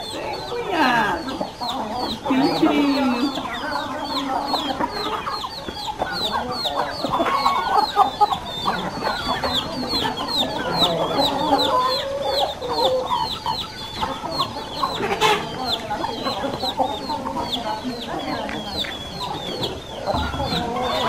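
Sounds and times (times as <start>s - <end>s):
chickens clucking: 0.0s - 21.0s
chicks peeping: 0.0s - 21.0s.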